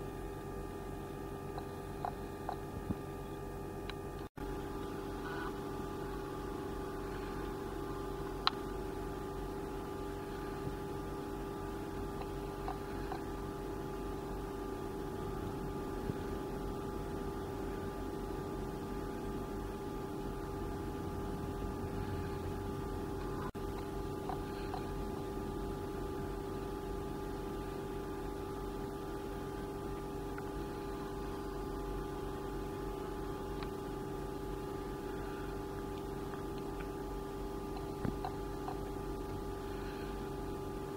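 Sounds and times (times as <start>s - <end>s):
electrical equipment hum: 0.0s - 40.9s.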